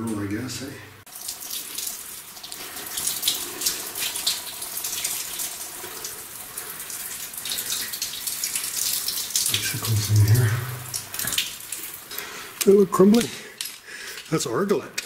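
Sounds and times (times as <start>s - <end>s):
water splashing and trickling: 0.0s - 14.9s.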